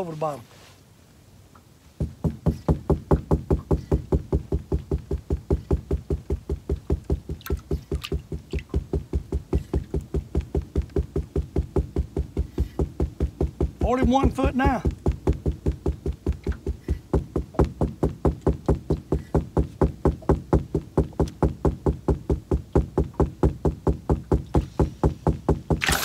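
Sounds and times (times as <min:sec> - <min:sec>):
steady even knocking: 0:02.0 - 0:25.8.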